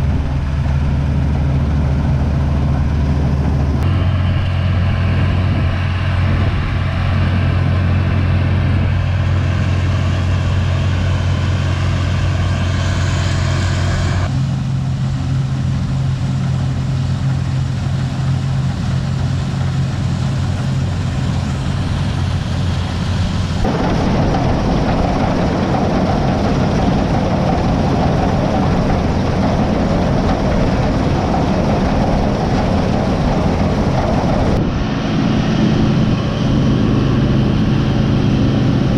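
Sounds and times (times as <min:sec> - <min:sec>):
heavy farm machinery engine: 0:00.0 - 0:38.9.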